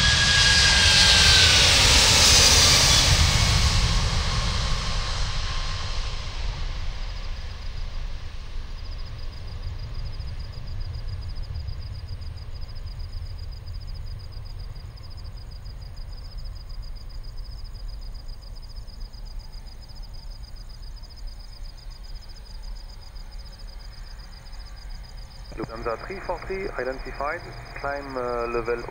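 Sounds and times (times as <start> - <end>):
jet engines rumbling: 0.0 - 28.9.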